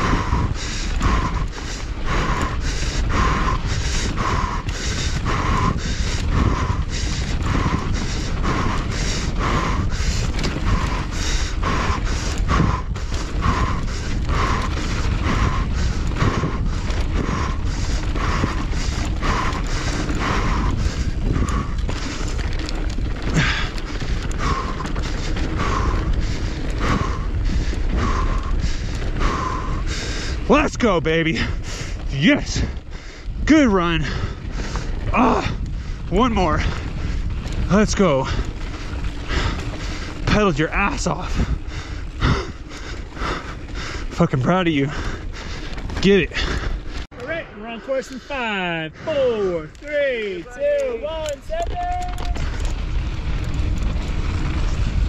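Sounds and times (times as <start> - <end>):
person panting hard: 0.0 - 49.8, 52.0 - 55.0
wind and trail noise: 0.0 - 55.0.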